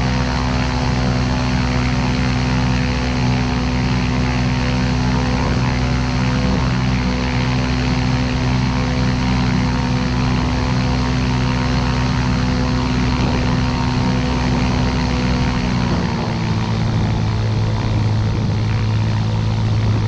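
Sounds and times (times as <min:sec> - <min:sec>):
aircraft engine and propeller: 0:00.0 - 0:20.0.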